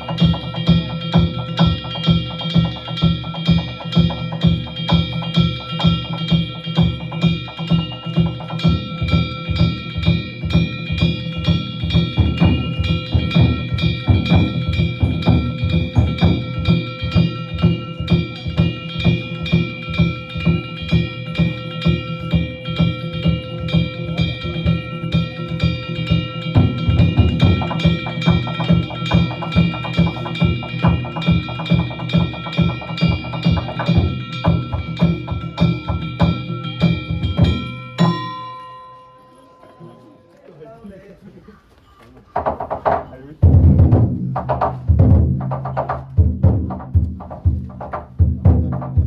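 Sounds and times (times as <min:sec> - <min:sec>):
taiko drums beating: 0:00.0 - 0:39.0, 0:42.3 - 0:49.0
metal gongs ringing: 0:00.0 - 0:41.2.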